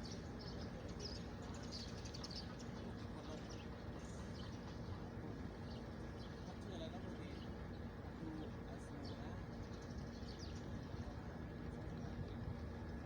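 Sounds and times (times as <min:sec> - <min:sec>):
small birds chirping: 0:00.0 - 0:05.0, 0:05.6 - 0:11.2
low background hum: 0:00.0 - 0:13.0.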